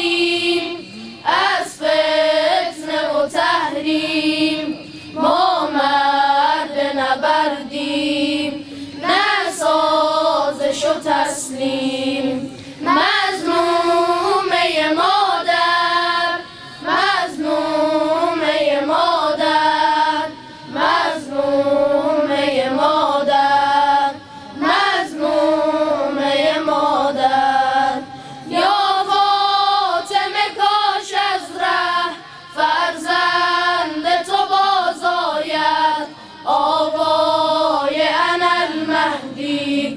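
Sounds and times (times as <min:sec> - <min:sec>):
boys' choir singing: 0:00.0 - 0:39.9.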